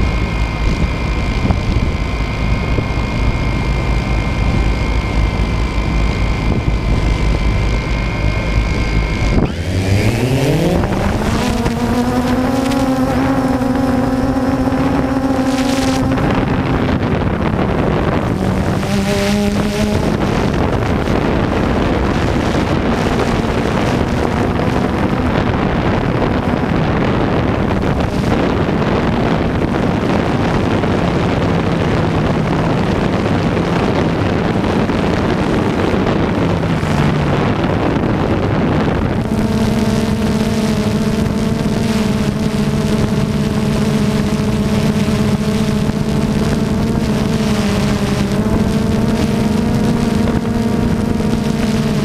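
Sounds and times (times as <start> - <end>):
drone propellers whirring: 0.0 - 52.0
wind noise on microphone: 0.0 - 52.0.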